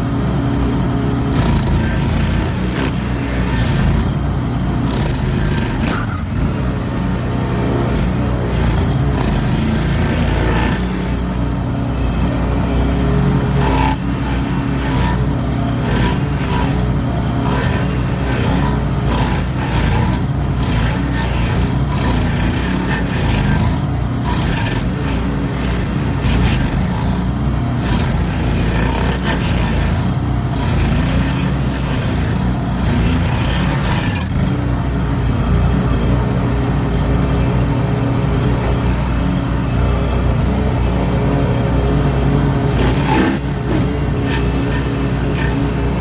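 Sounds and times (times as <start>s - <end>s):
mower engine running: 0.0s - 46.0s.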